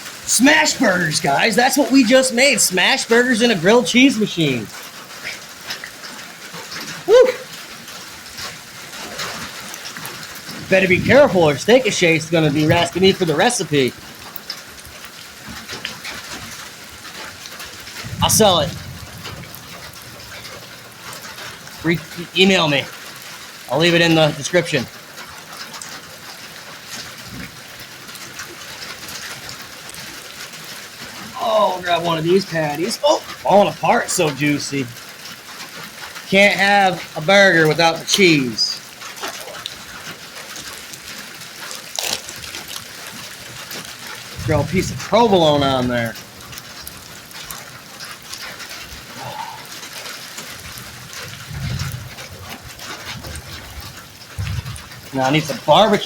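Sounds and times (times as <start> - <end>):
burger patties sizzling: 0.0 - 56.0.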